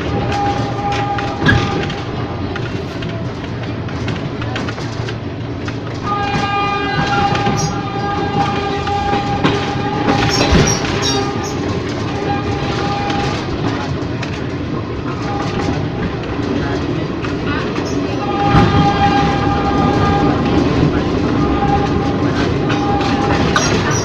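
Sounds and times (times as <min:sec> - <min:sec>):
train car jolt: 0:00.0 - 0:24.0
train rumbling along track: 0:00.0 - 0:24.0
wheels clacking over rail joints: 0:00.0 - 0:24.0.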